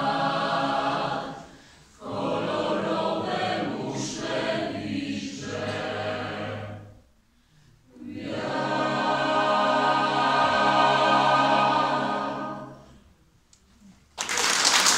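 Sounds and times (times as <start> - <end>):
choir singing a cappella: 0.0 - 7.2, 7.8 - 13.2.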